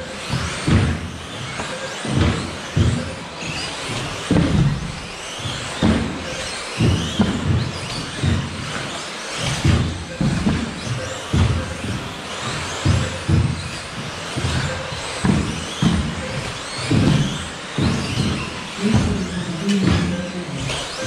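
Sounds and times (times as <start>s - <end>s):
electric motors whining: 0.0s - 21.0s
low thumps: 0.0s - 21.0s.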